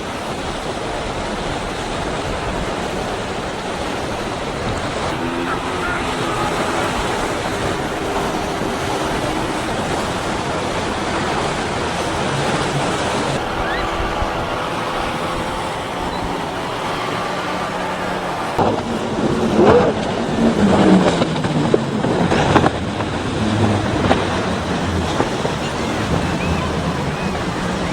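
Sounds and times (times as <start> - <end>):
power boat engines droning: 0.0 - 27.9
rushing water and surf: 0.0 - 27.9.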